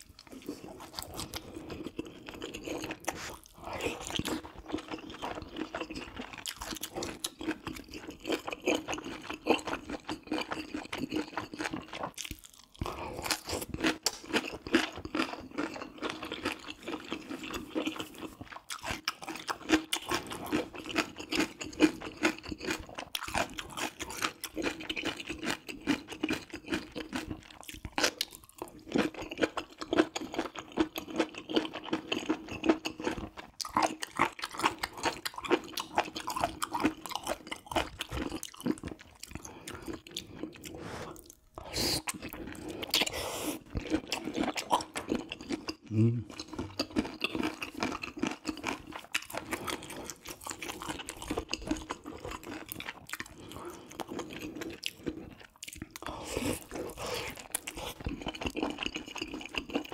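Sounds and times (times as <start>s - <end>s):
close chewing and biting: 0.0s - 59.9s.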